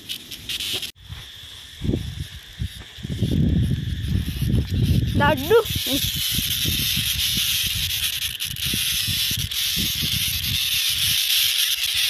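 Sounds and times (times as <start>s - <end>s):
steady outdoor hiss: 0.0s - 12.0s
wind buffeting microphone: 1.0s - 12.0s.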